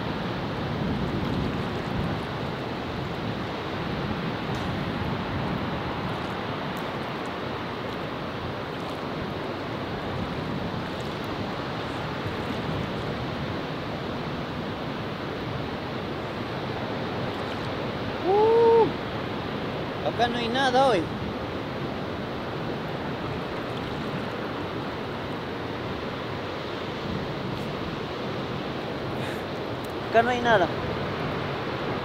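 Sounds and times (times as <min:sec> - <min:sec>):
water rushing: 0:00.0 - 0:32.0
wind on microphone: 0:00.0 - 0:32.0.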